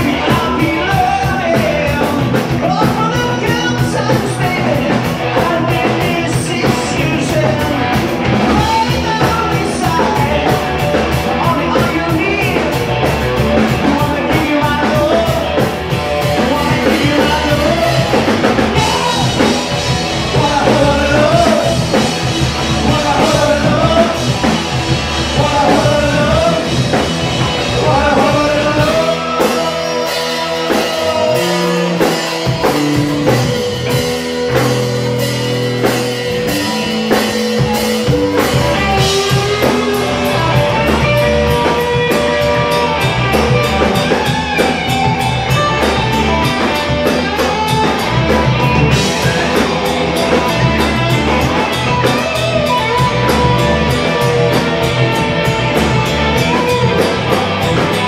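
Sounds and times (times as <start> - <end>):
person singing: 0.0 - 35.0, 36.2 - 58.0
drum kit with cymbals: 0.0 - 58.0
electric guitars: 0.0 - 58.0.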